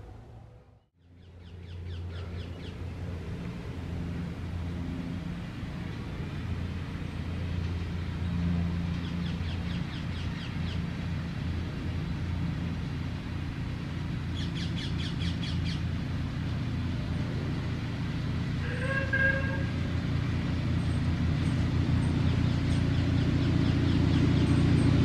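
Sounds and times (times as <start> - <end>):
miniature locomotive engine hum: 1.5 - 25.0.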